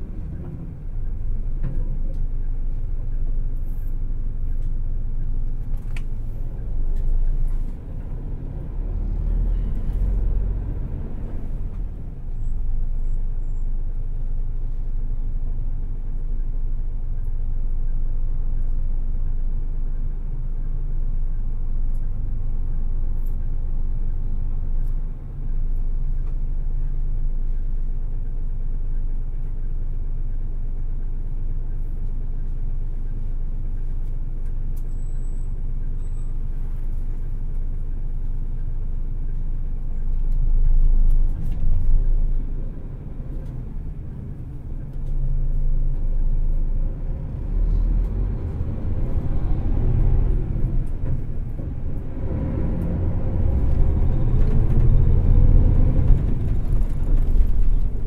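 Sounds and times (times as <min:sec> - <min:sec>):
diesel engine drone: 0:00.0 - 0:58.0
road rumble: 0:00.0 - 0:58.0.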